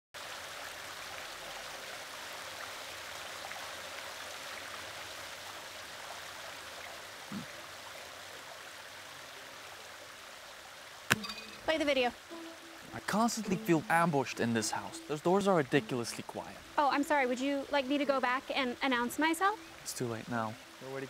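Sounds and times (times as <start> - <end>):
fountain water splashing: 0.2 - 21.0.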